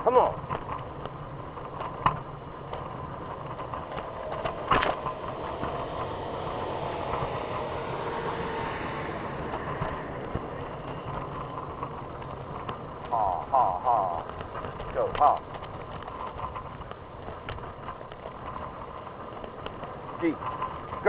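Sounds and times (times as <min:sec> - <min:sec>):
wheels rolling on pavement: 0:00.0 - 0:21.0.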